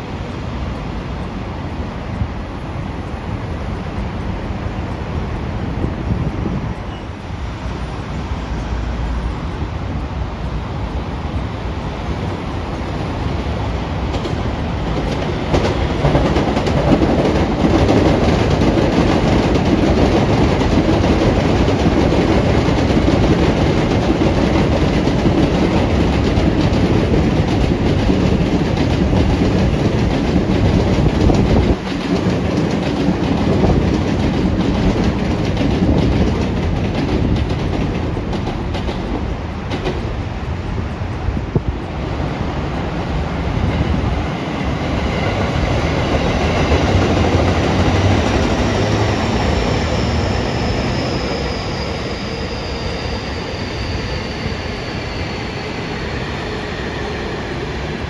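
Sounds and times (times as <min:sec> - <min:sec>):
train running on rails: 0:00.0 - 0:58.0.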